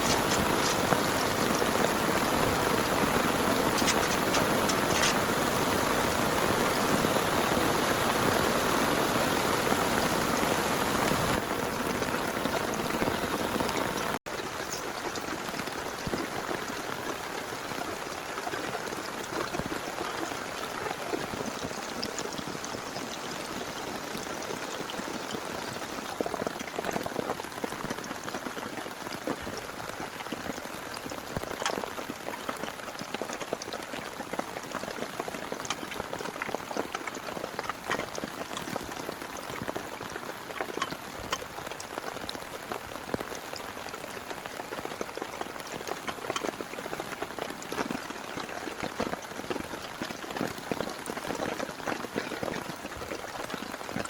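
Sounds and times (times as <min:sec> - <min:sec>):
heavy rain falling: 0:00.0 - 0:54.0
individual raindrops: 0:00.0 - 0:54.0.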